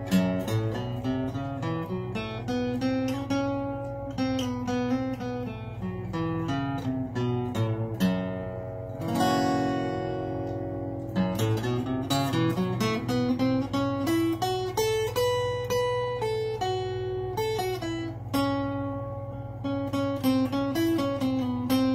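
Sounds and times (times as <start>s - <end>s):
acoustic guitar playing blues: 0.0s - 21.9s.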